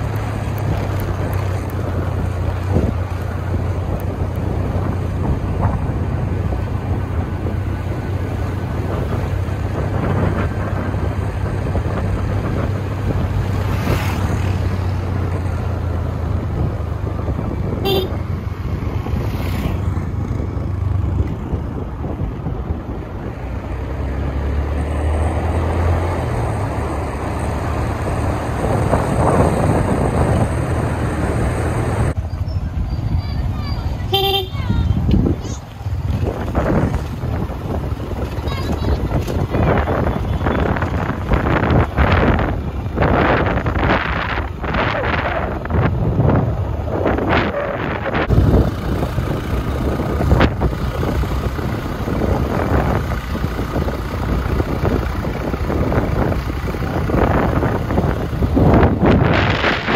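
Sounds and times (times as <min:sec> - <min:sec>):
road noise: 0:00.0 - 0:59.9
vehicle engine running: 0:00.0 - 0:59.9
wind noise: 0:00.0 - 0:59.9.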